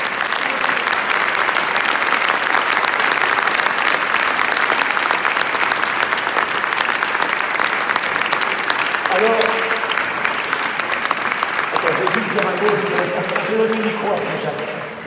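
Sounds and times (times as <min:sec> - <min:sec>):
audience applause echoing: 0:00.0 - 0:15.0.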